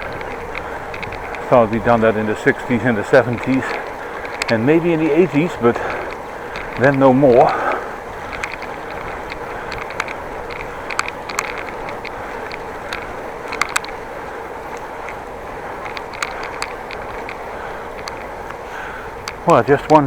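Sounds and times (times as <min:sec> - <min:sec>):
bicycle clicks and rattles: 0:00.0 - 0:20.0
bicycle tyre and wind noise: 0:00.0 - 0:20.0.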